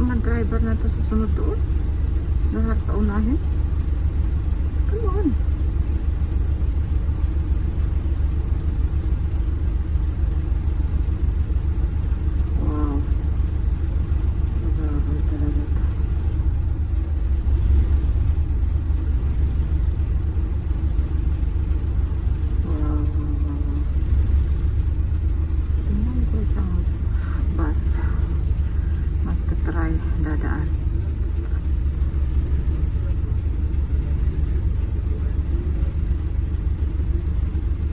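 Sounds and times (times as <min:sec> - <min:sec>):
bus engine rumbling: 0:00.0 - 0:37.9.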